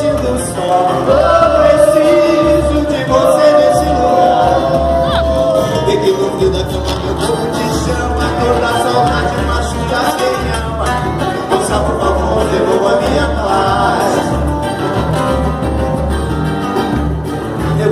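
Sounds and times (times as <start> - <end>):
band music with pulsing bass: 0.0 - 17.9.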